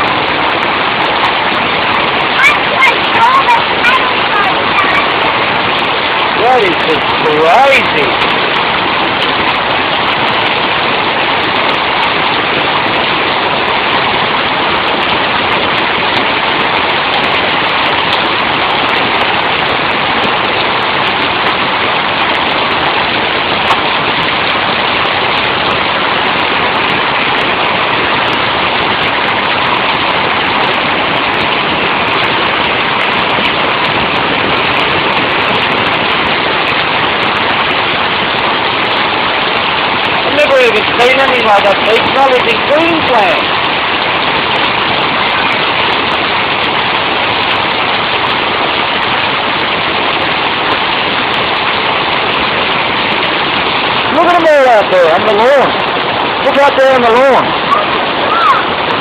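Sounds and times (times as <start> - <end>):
hail and heavy rain pelting: 0.0 - 59.0.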